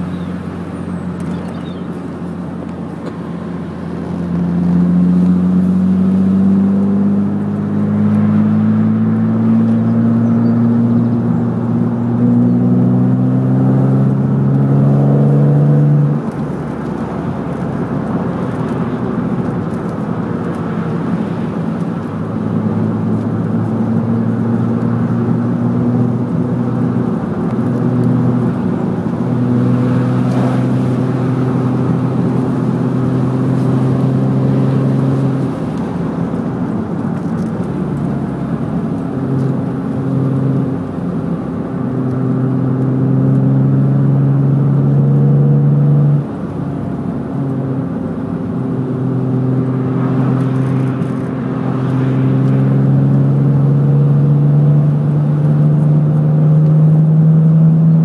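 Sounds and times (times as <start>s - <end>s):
car engine from inside: 0.0s - 58.0s.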